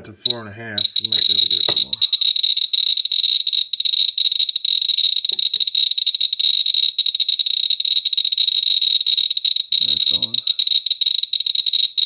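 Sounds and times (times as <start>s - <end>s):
geiger counter clicking: 0.0s - 12.0s.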